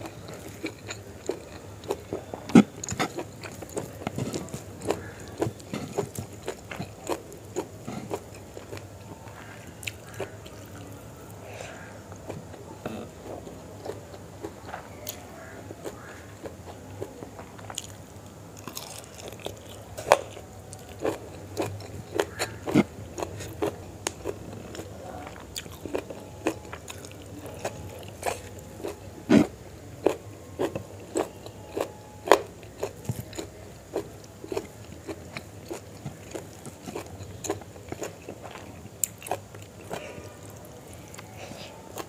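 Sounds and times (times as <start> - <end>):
close chewing with wet mouth clicks: 0.0 - 10.9, 18.6 - 42.0.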